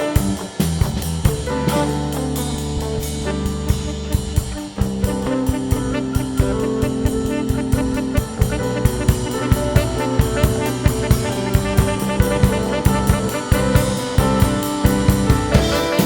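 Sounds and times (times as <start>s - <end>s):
brass horns: 0.0s - 16.0s
drum kit beat: 0.0s - 16.0s.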